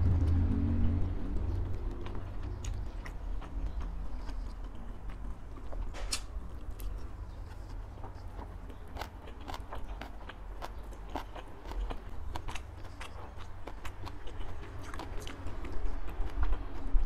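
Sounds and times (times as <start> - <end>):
close-up chewing with crunches: 0.1 - 17.0.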